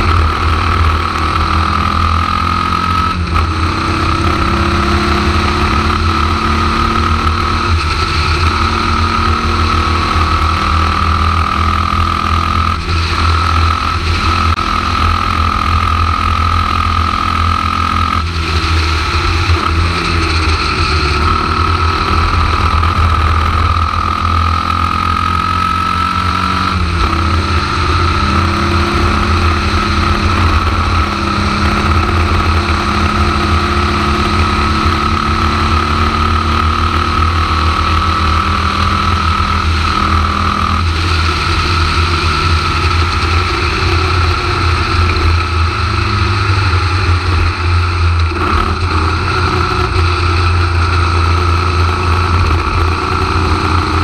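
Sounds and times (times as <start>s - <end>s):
high whine: 0.0s - 54.0s
racing car engine running hard: 0.0s - 54.0s.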